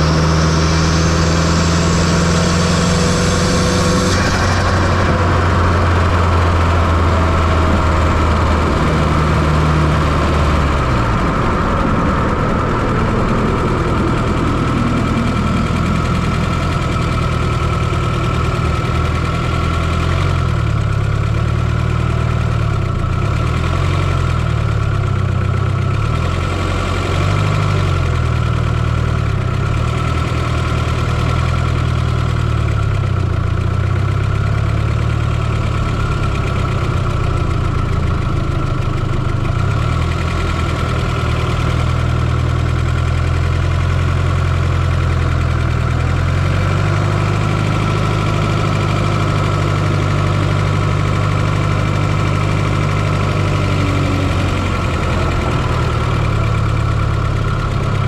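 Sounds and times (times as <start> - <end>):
car engine running with whine: 0.0 - 58.0.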